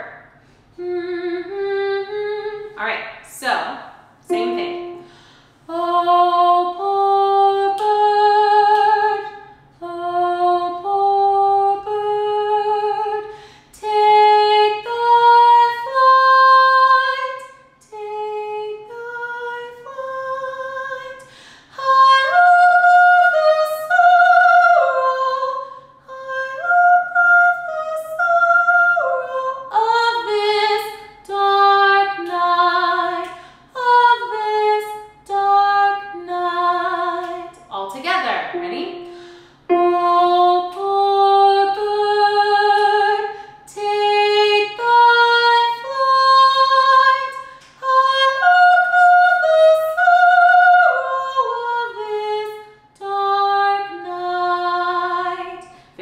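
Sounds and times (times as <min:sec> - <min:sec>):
woman singing unaccompanied: 0:00.8 - 0:03.6, 0:04.2 - 0:55.7.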